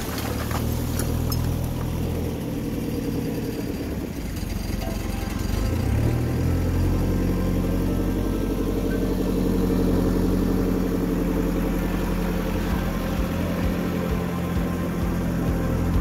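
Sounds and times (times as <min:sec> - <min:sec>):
diesel engine under load: 0:00.0 - 0:16.0.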